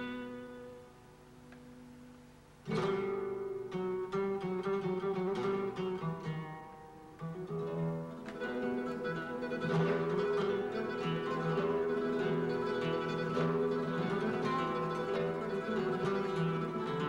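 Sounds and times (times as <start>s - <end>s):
flamenco guitars playing: 0.0s - 17.0s.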